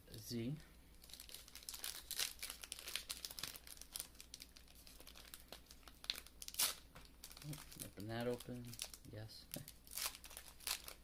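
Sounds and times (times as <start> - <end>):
foil wrapper crinkling: 1.0 - 11.0.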